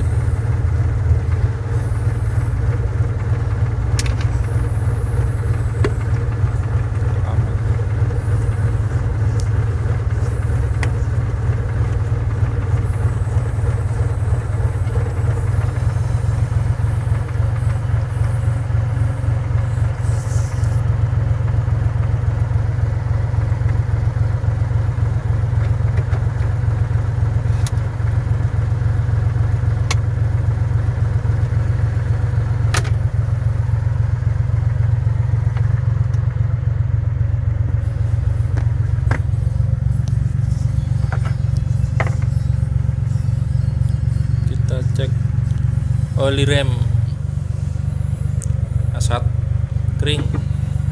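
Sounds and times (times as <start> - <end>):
engine idling: 0.0 - 50.9.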